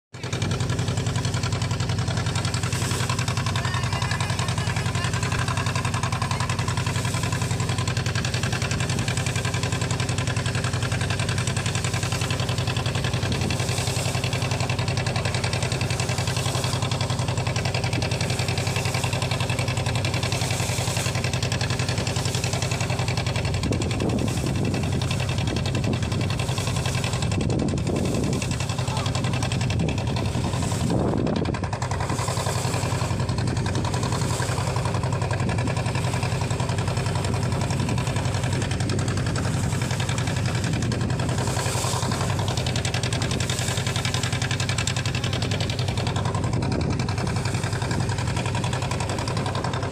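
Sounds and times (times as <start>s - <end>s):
boat engine humming: 0.1s - 49.9s
water hissing along hull: 0.2s - 49.9s.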